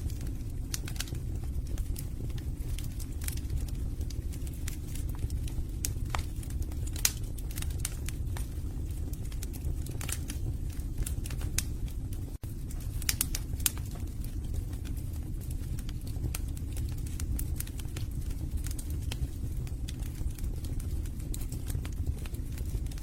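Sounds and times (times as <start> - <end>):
logs crackling and popping: 0.0 - 23.0
low rumble of flames: 0.0 - 23.0.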